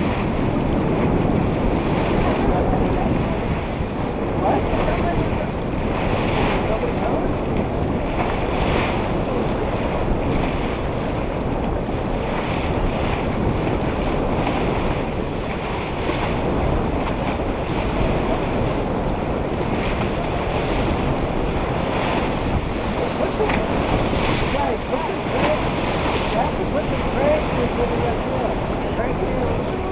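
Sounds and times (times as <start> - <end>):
water rushing along hull: 0.0 - 29.9
wind rumbling on microphone: 0.0 - 29.9.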